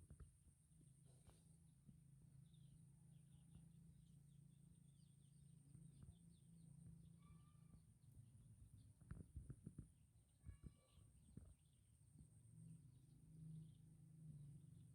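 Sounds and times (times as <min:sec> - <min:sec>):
faint bird chirps: 0:00.8 - 0:14.9.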